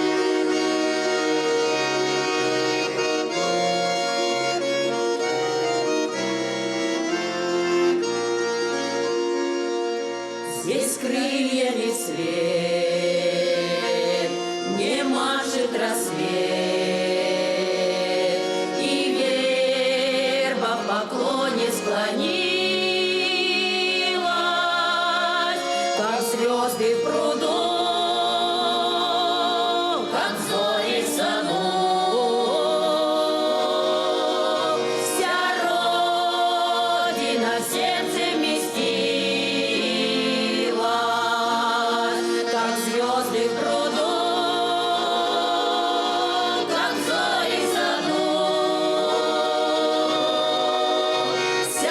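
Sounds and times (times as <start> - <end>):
folk ensemble singing: 0.0 - 51.9.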